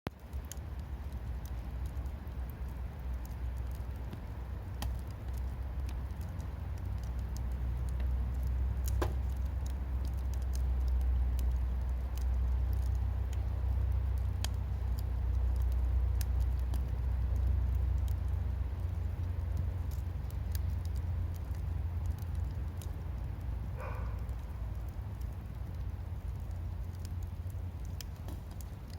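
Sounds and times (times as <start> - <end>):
firewood crackling and popping: 0.1 - 28.9
low rumble: 0.1 - 28.9.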